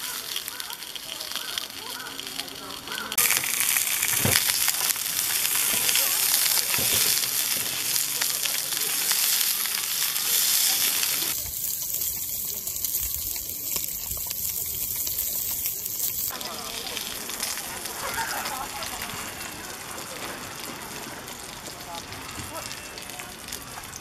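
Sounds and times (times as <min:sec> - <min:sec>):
sausages sizzling in oil: 0:00.0 - 0:24.0.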